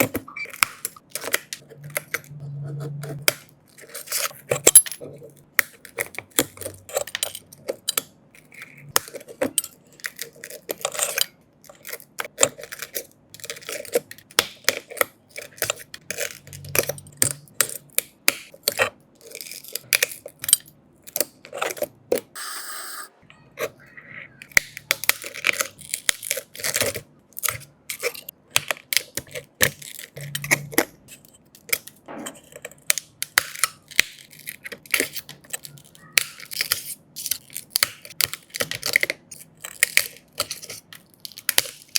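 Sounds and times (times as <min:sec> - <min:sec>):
small tools clicking and clinking: 0:03.2 - 0:22.3, 0:24.4 - 0:41.9.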